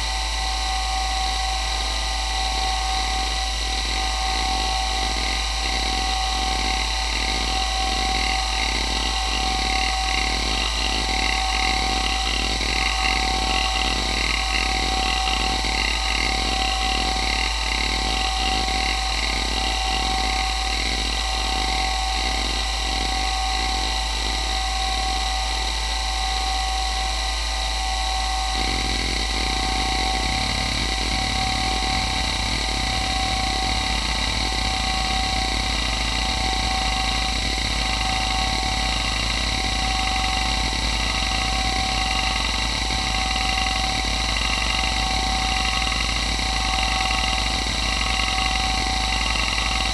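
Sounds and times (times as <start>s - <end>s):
hard drive spindle whine: 0.0s - 49.9s.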